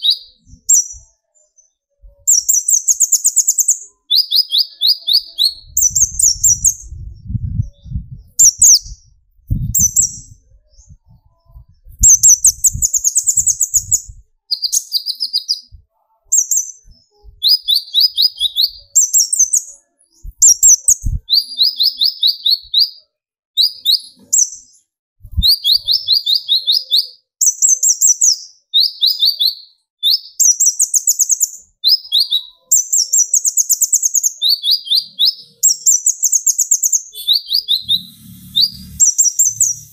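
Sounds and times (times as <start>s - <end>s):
sunbird singing trilled phrases: 0.0s - 39.9s.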